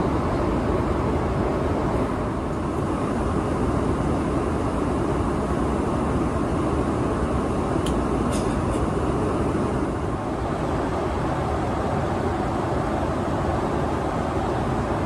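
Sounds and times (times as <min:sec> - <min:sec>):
airliner cabin engine and airflow: 0:00.0 - 0:15.0.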